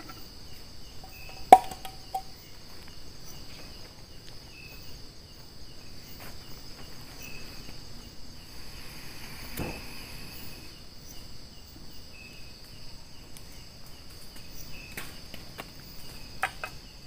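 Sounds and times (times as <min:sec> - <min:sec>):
insect chirp: 0:00.0 - 0:17.0
insects droning: 0:00.0 - 0:17.0.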